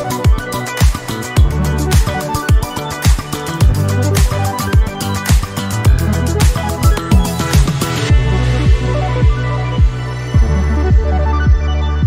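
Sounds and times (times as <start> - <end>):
heavy bassline: 0.0 - 12.0
kick drum beat: 0.3 - 11.7.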